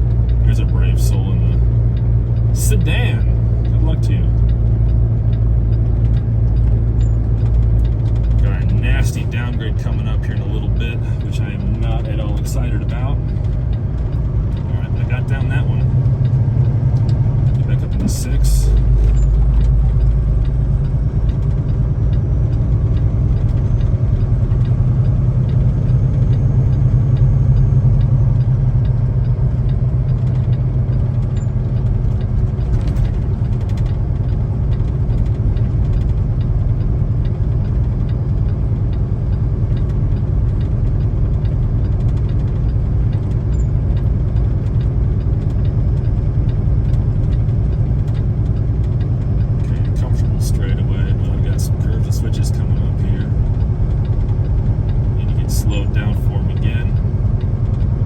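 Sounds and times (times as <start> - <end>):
truck diesel engine rumbling: 0.0 - 58.0.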